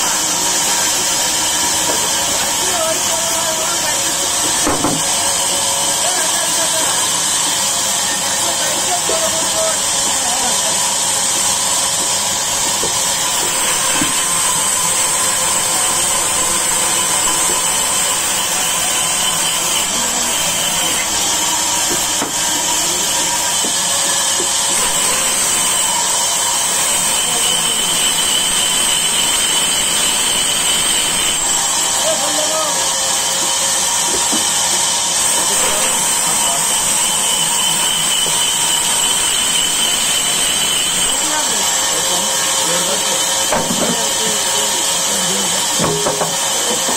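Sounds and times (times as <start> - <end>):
band saw whining: 0.0 - 46.9.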